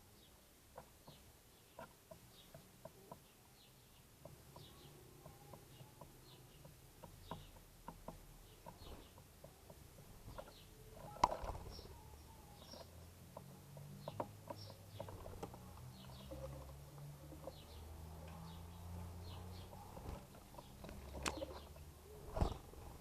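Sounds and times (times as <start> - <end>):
faint high bird chirps: 1.1 - 7.7, 10.3 - 22.9
birds pecking taps: 4.2 - 23.0.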